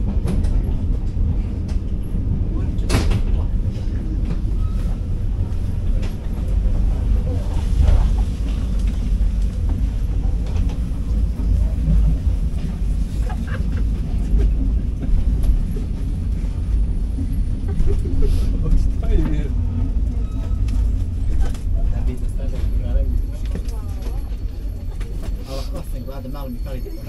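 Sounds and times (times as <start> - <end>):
train rumbling on track: 0.0 - 27.0.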